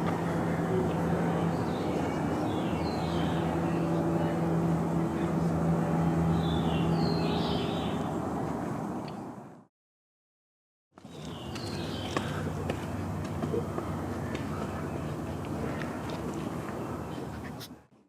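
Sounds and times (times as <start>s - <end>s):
low mechanical drone: 0.0s - 9.7s, 11.0s - 17.9s.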